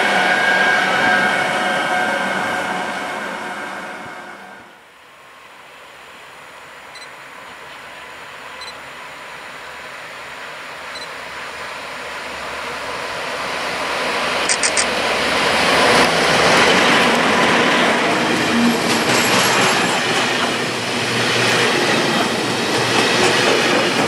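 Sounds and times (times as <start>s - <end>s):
freight train rumble: 0.0s - 4.7s, 7.3s - 24.0s
train running: 0.0s - 4.8s, 6.0s - 24.0s.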